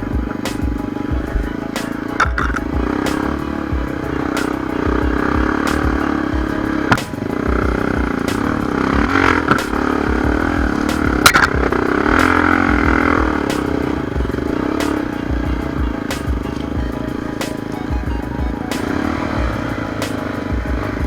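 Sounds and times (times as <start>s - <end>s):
motorcycle engine under load: 0.0s - 21.0s
sharp knocks and clatter: 0.0s - 21.0s.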